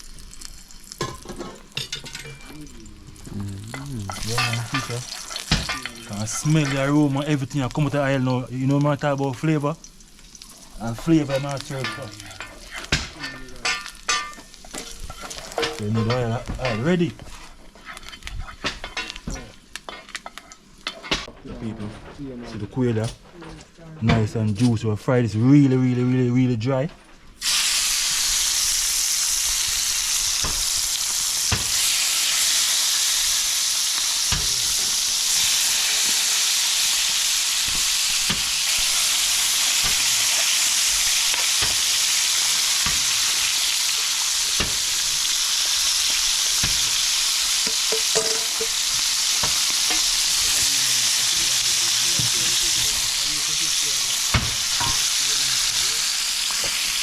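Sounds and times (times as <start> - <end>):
oil popping and crackling: 0.0 - 21.6, 27.4 - 57.0
oil sizzling: 0.0 - 23.2, 26.6 - 57.0.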